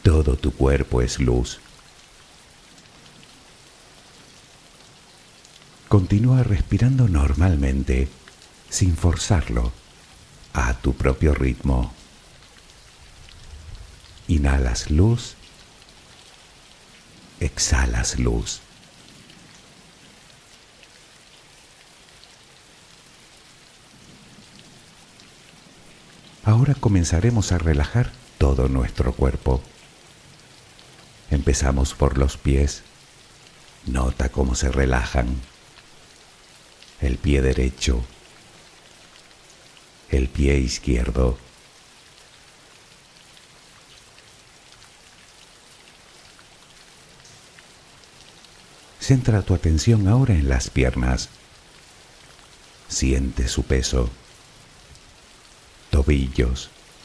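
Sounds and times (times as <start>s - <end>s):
soft steady rain: 0.0s - 57.0s.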